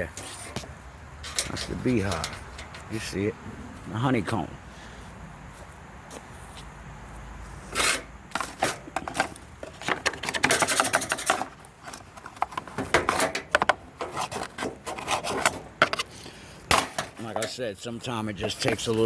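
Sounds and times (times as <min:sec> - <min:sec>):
tools scraping on metal parts: 0:00.0 - 0:03.9, 0:07.6 - 0:19.0.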